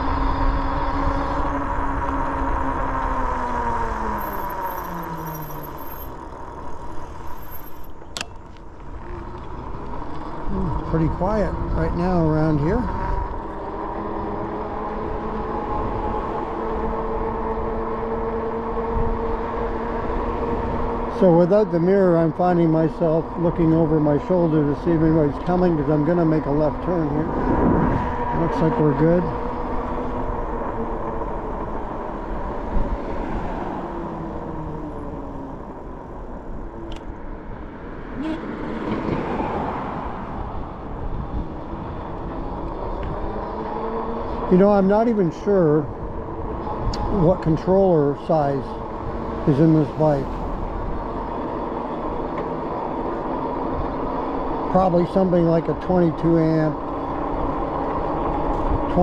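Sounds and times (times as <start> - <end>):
electric bike motor whine: 0.0 - 8.1, 8.7 - 38.7, 39.8 - 45.3, 48.8 - 56.2
wind and road rumble: 0.0 - 59.0.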